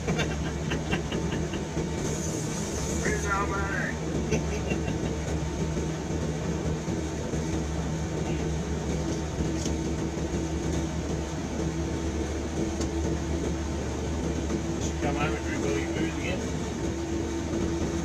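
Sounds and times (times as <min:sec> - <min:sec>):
road noise: 0:00.0 - 0:18.0
truck engine drone: 0:00.0 - 0:18.0.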